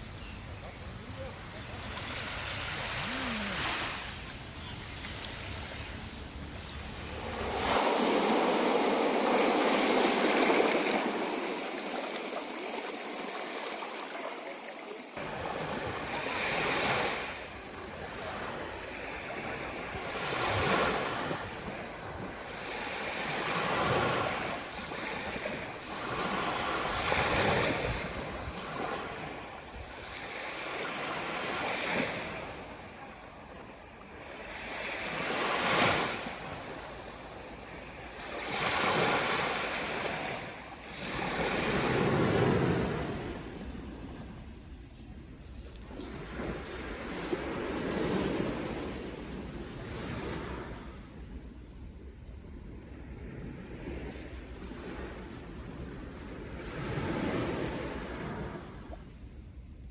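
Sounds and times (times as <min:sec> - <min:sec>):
waves breaking on shore: 0:00.0 - 0:44.5, 0:45.4 - 0:51.2.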